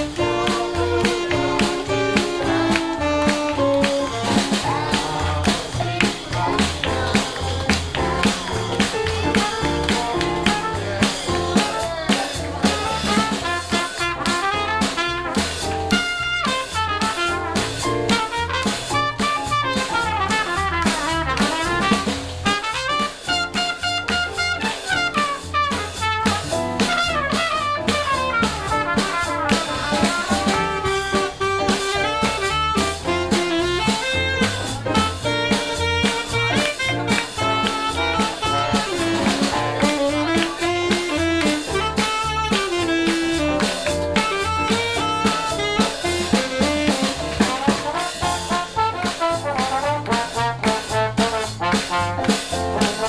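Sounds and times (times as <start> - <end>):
bass line: 0.0 - 53.0
brass horns playing melody: 0.0 - 53.0
drum kit beat: 0.0 - 53.0
trombone: 0.0 - 53.0
trumpet: 0.0 - 53.0.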